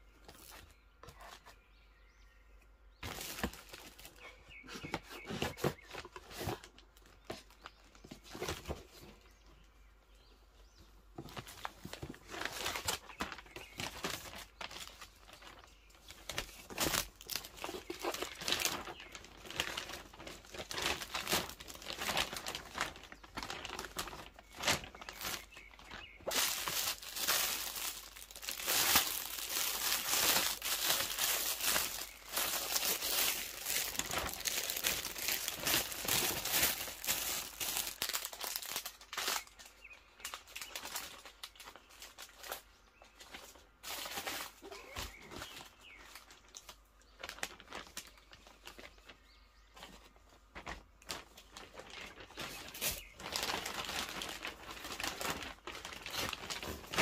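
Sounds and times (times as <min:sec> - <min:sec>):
plastic bags crinkling: 0:00.2 - 0:01.3, 0:03.0 - 0:09.2, 0:11.2 - 0:57.0.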